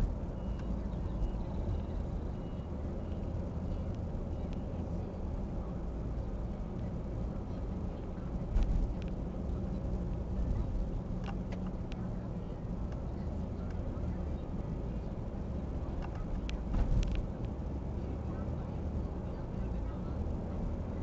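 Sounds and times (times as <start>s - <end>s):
heavy engine rumbling: 0.0s - 21.0s.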